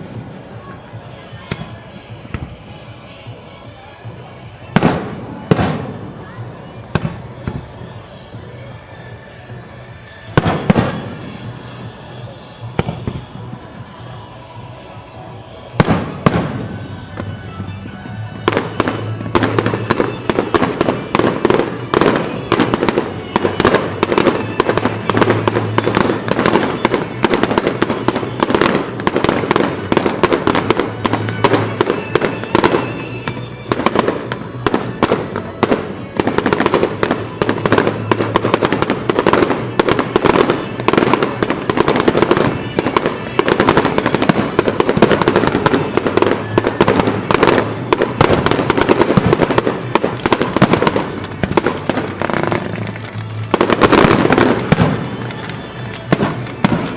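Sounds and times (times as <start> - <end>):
fireworks bangs and crackles: 0.0 - 56.9
music: 0.0 - 56.9.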